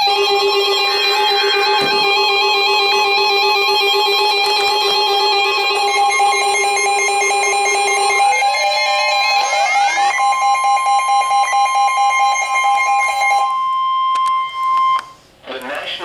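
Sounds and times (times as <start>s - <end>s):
rising synthesizer sweeps: 0.0s - 13.5s
synthesizer chord: 0.0s - 13.7s.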